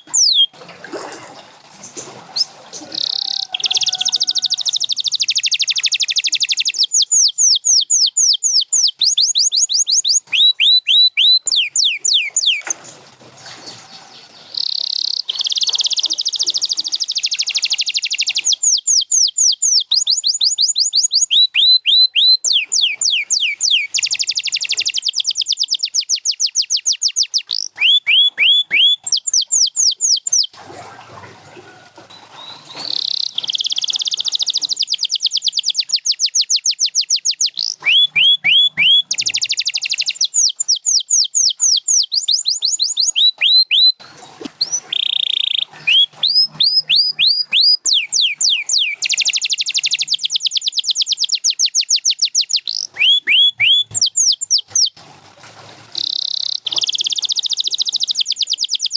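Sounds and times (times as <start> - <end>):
canary singing: 0.0 - 0.6, 1.9 - 30.6, 32.1 - 55.0, 56.0 - 58.9.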